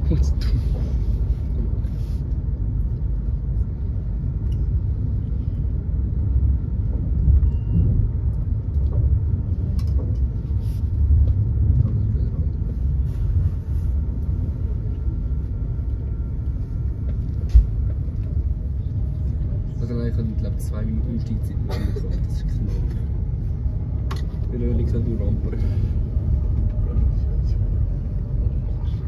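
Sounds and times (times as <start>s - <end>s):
electric train rumble: 0.0s - 29.0s.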